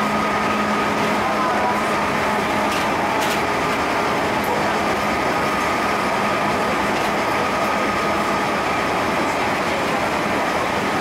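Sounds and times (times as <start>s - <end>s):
train wheel and running noise: 0.0s - 11.0s.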